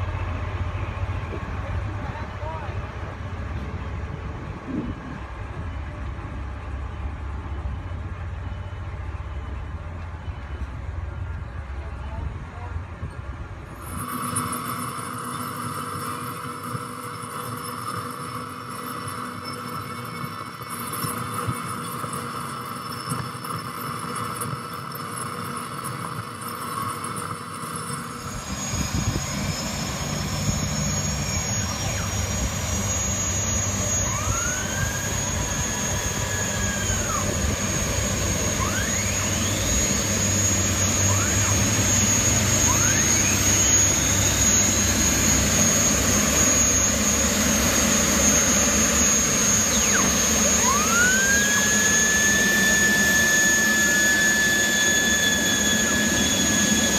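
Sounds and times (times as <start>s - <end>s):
high turbine whine: 0.0s - 56.9s
turbine engine starting up: 0.0s - 56.9s.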